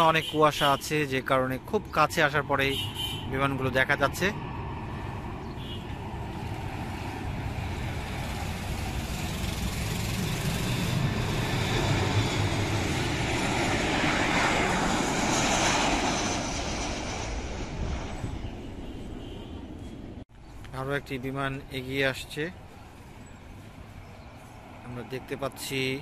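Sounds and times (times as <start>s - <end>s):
jet airliner engine rush: 0.0s - 26.0s.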